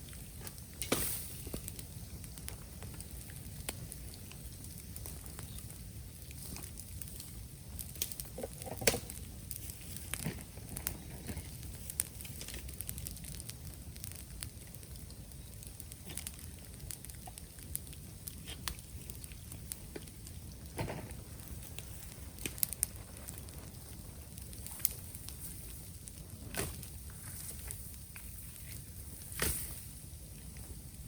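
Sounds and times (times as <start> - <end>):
bonfire crackling: 0.0 - 31.0
sharp pops of burning bamboo: 0.0 - 31.0.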